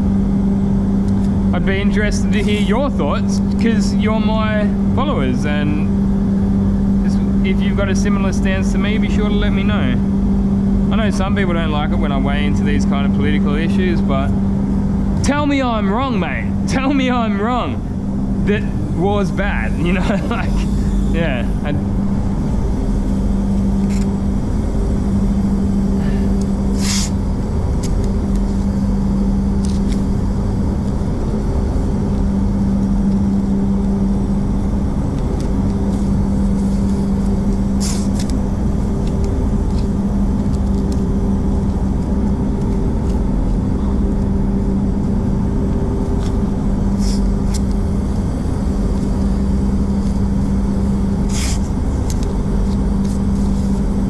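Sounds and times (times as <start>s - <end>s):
ventilation fans humming: 0.0s - 54.0s.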